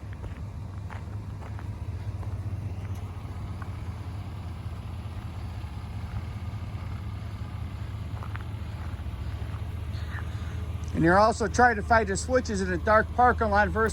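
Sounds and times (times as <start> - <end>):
pickup truck engine idling: 0.0 - 13.9.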